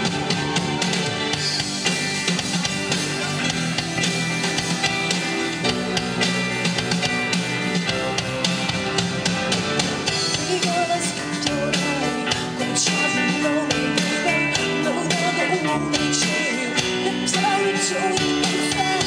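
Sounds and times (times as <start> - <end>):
drum kit: 0.0 - 19.0
guitar: 0.0 - 19.0.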